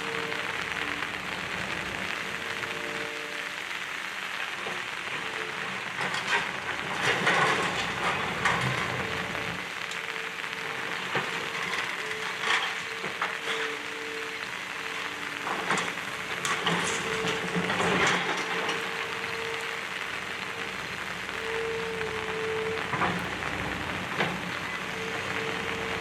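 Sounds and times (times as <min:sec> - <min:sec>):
debris crumbling and falling: 0:04.6 - 0:26.0.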